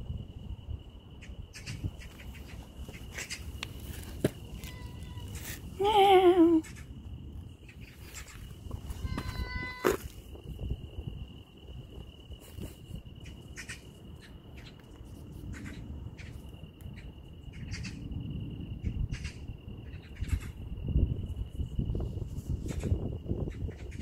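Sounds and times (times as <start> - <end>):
high-pitched insect song: 0.0 - 24.0.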